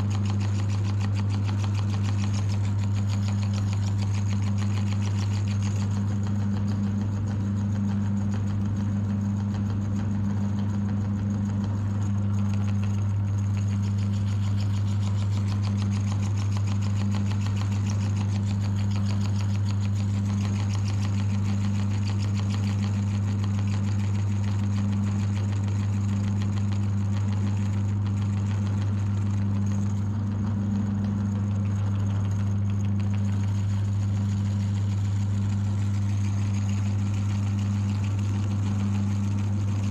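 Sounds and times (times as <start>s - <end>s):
electric meat grinder motor humming: 0.0s - 39.9s.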